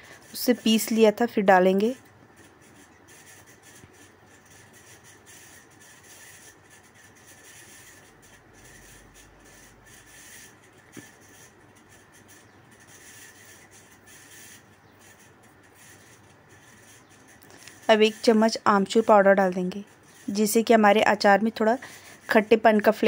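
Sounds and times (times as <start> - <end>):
spatula scraping onions in pan: 0.1 - 23.0.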